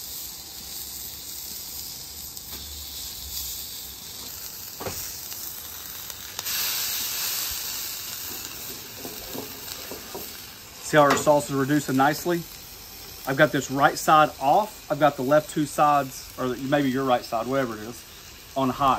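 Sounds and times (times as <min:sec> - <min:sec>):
food sizzling on griddle: 0:00.0 - 0:18.9.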